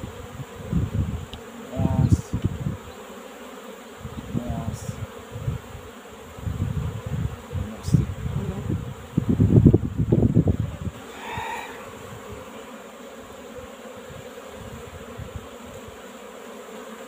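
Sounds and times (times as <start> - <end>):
bee passing with rising buzz: 0.0 - 17.0
bees buzzing hum: 0.0 - 17.0.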